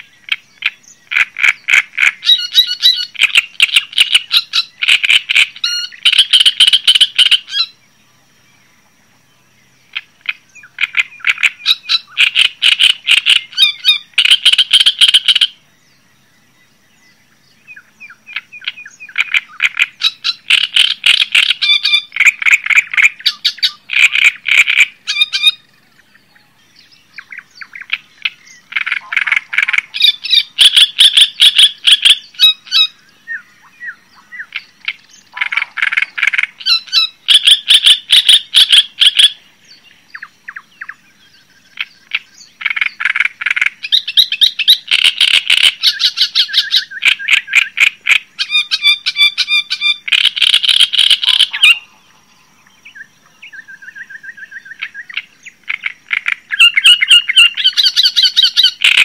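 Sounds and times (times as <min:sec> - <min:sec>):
songbird chattering: 0:00.0 - 0:59.0.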